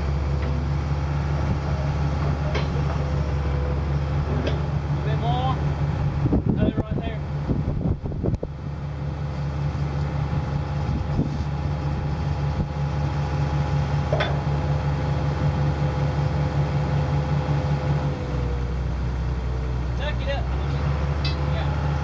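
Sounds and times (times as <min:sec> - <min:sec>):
excavator diesel engine: 0:00.0 - 0:22.0
hydraulic whine: 0:00.0 - 0:22.0.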